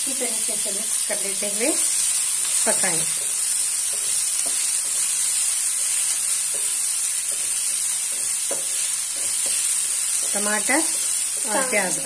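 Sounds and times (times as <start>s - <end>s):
vegetables sizzling in oil: 0.0s - 12.0s
spatula scraping a pan: 1.8s - 12.0s.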